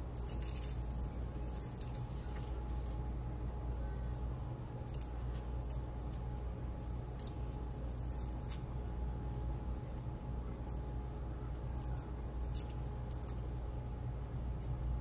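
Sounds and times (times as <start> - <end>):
garlic skins crackling: 0.0 - 3.0, 4.6 - 13.7
steady low hum: 0.0 - 15.0.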